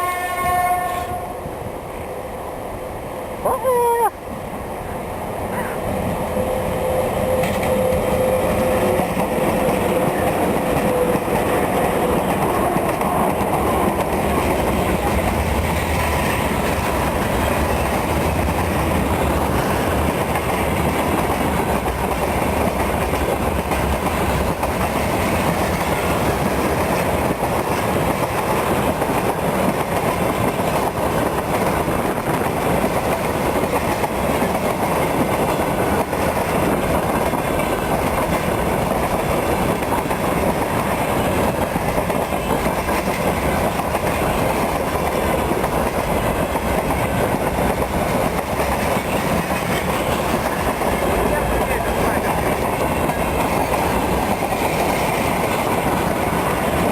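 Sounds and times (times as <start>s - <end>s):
freight train wheels clattering: 6.9s - 56.9s.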